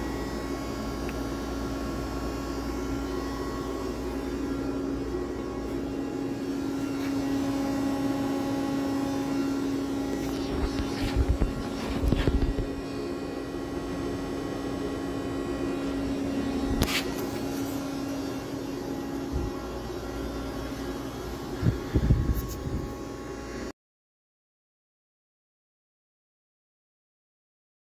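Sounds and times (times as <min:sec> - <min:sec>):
lathe electric hum: 0:00.0 - 0:23.7.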